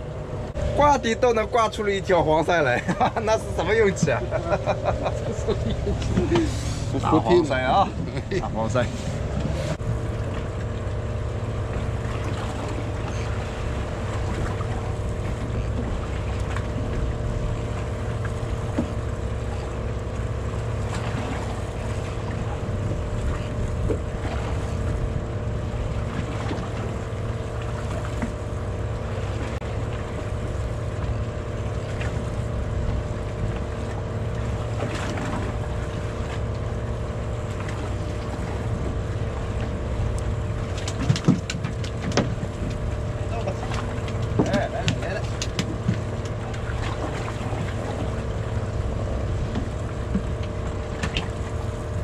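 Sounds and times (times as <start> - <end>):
boat engine humming: 0.0 - 52.0.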